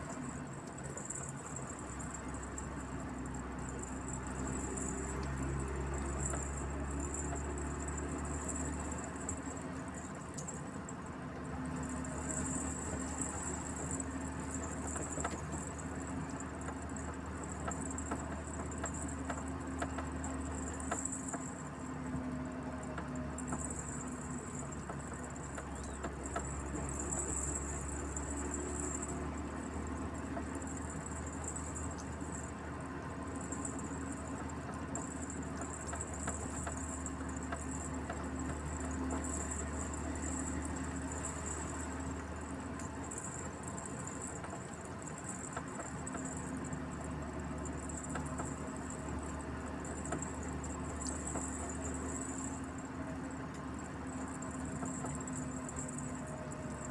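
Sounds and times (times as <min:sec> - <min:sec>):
light rattles: 0:00.0 - 0:56.9
truck engine drone: 0:00.0 - 0:56.9.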